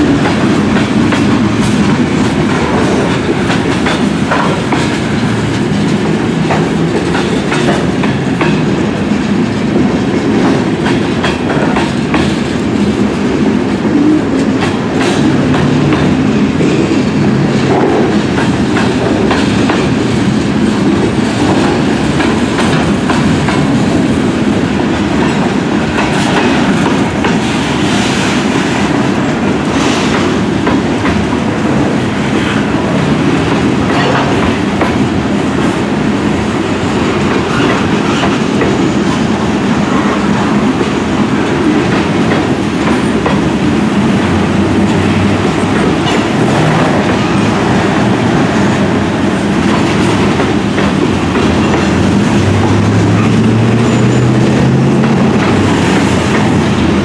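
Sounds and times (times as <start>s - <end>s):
train rumble: 0.0s - 57.0s
wheels clacking over rail joints: 0.0s - 57.0s.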